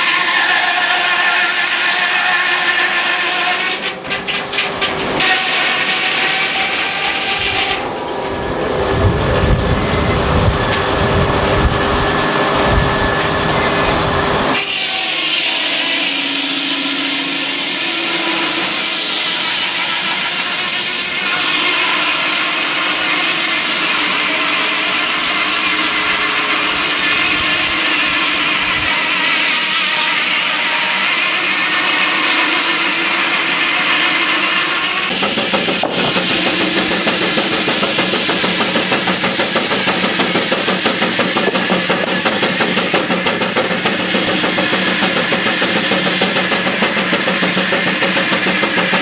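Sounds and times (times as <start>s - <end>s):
saw blade cutting log: 0.0s - 7.9s, 13.5s - 49.0s.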